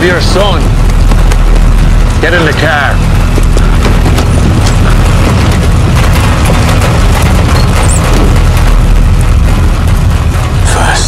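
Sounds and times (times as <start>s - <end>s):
deep low rumble: 0.0s - 11.0s
heavy rain hissing: 0.0s - 11.0s.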